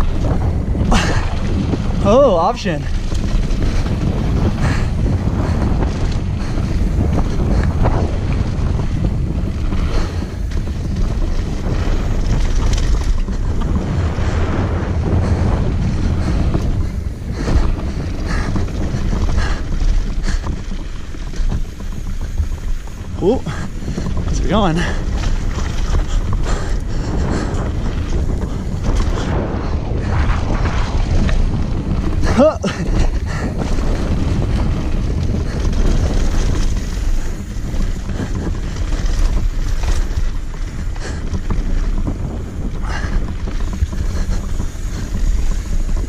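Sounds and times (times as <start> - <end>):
bike clacking over bumps: 0.0 - 46.0
tyre rumble on dirt: 0.0 - 46.0
wind buffeting microphone: 0.0 - 46.0.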